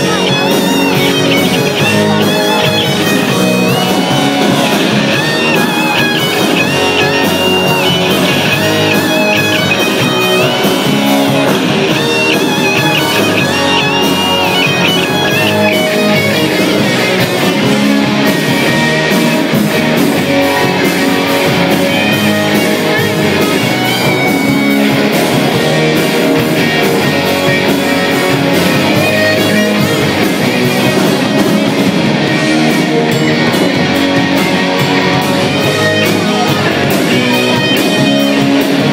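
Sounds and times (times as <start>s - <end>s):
high lead guitar: 0.0s - 38.9s
rock band playing: 0.0s - 38.9s.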